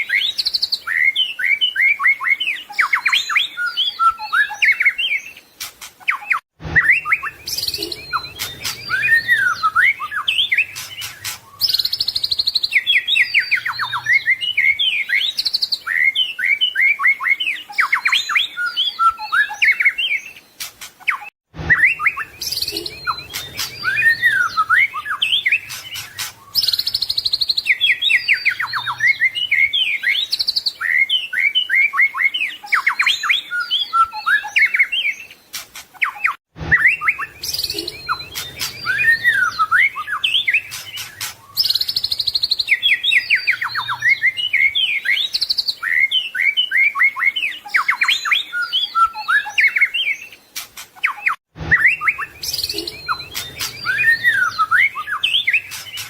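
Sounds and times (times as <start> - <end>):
songbird singing varied song: 0.0 - 56.0.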